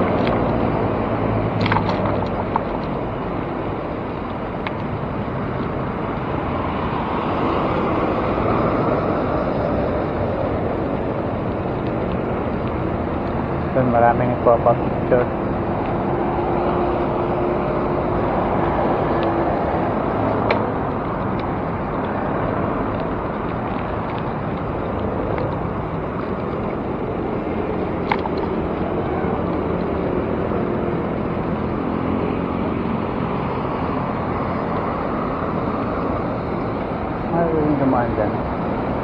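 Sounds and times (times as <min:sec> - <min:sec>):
city road traffic: 0:00.0 - 0:39.0.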